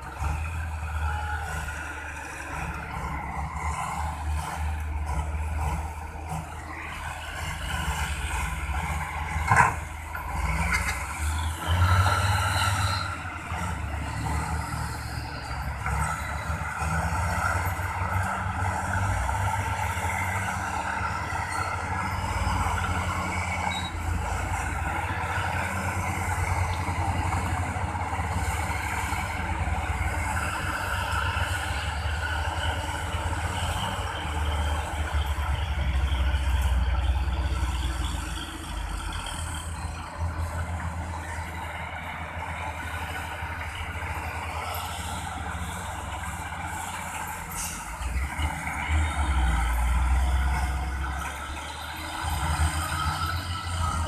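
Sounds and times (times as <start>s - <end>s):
diesel engines rumbling: 0.0s - 54.0s.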